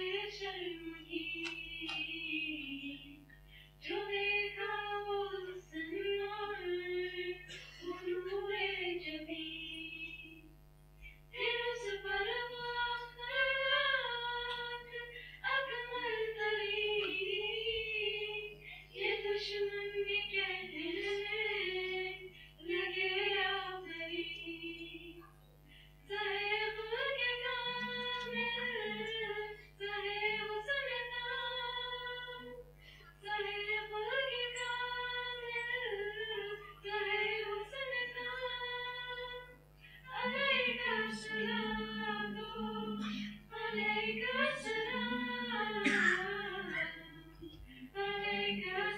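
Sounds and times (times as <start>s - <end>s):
women singing unaccompanied: 0.0s - 10.5s, 11.3s - 25.4s, 26.1s - 48.9s
steady low hum: 0.0s - 48.9s.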